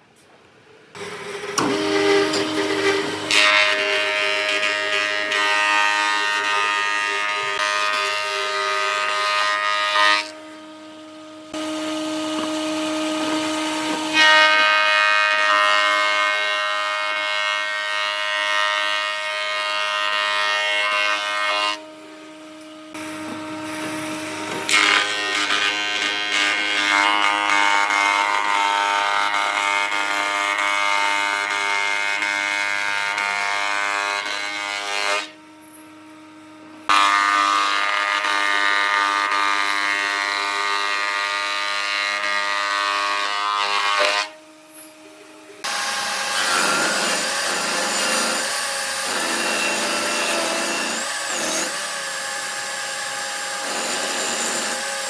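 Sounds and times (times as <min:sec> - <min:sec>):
power tool whining through wood: 0:01.0 - 0:55.0.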